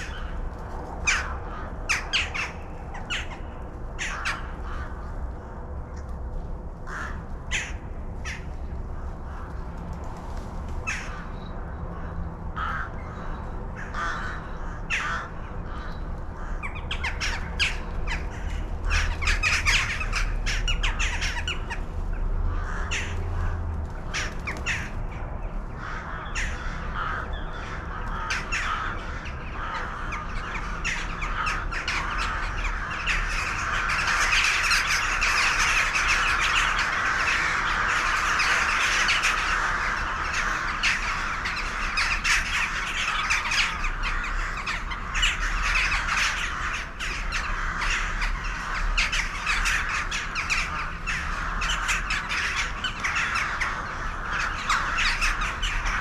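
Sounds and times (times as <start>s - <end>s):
flock of birds calling: 0.0s - 6.1s, 6.8s - 56.0s.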